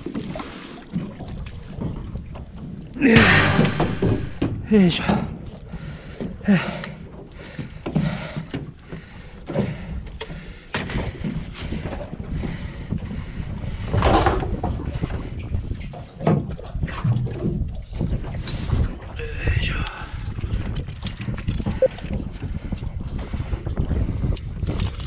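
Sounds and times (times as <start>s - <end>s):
water rushing against boat: 0.0s - 24.7s
wind: 0.0s - 25.0s.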